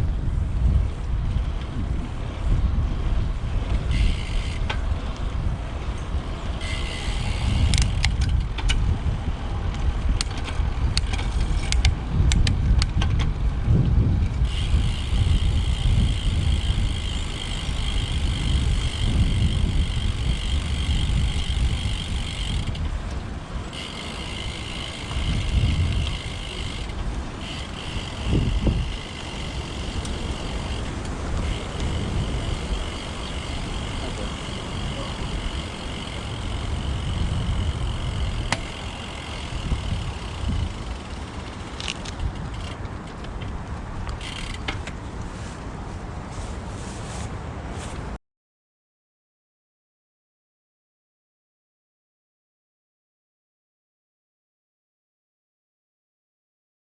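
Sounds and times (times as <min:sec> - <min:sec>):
wind rumble on microphone: 0:00.0 - 0:48.2.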